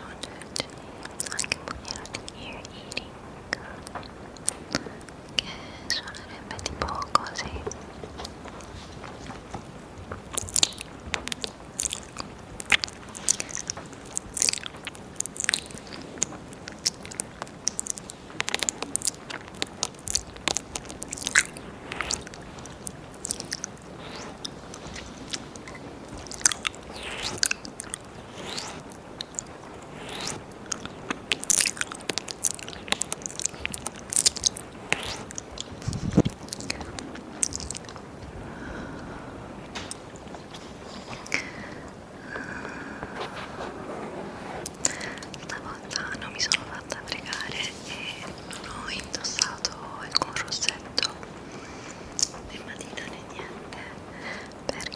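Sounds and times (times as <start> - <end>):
wet mouth clicks and slurps: 0.0 - 8.8, 10.2 - 38.0, 44.6 - 51.4, 52.1 - 53.9, 54.6 - 54.9
faint steady hiss: 0.0 - 54.9.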